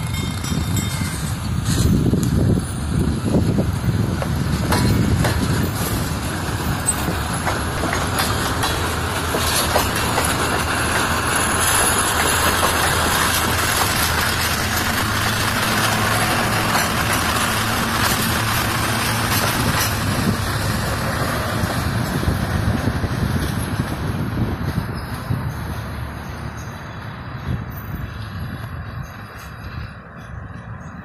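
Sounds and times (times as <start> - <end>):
locomotive low hum: 0.0 - 31.0
train wheels rumbling on rails: 0.0 - 31.0.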